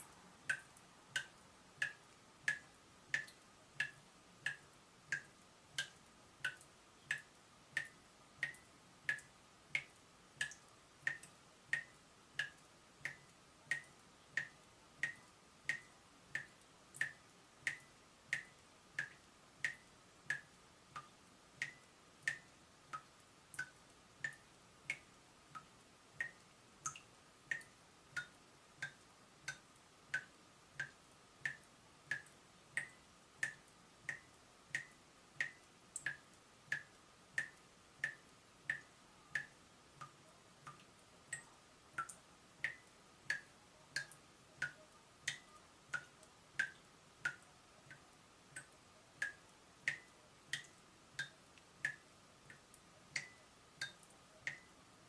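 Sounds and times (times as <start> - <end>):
water dripping from a tap: 0.0 - 54.8.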